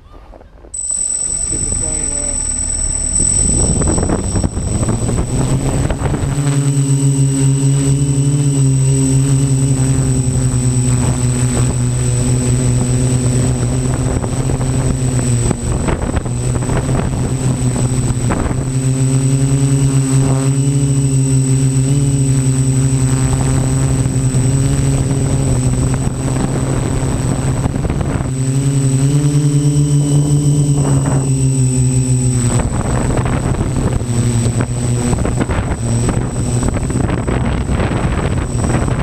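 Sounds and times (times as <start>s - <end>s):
thin high whine: 0.7s - 39.0s
drone propellers buzzing: 0.8s - 39.0s.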